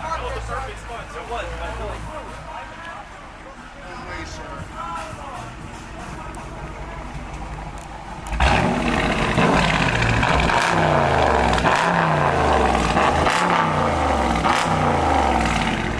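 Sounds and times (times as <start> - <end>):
car engine idling and revving: 0.0 - 15.9.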